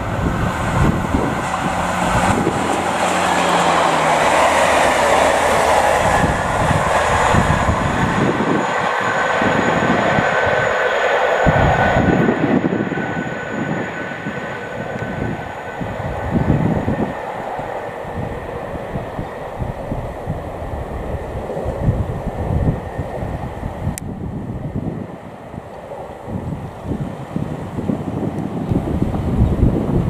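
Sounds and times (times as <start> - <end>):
diesel train rushing by: 0.0 - 30.0
wind buffeting microphone: 0.0 - 30.0.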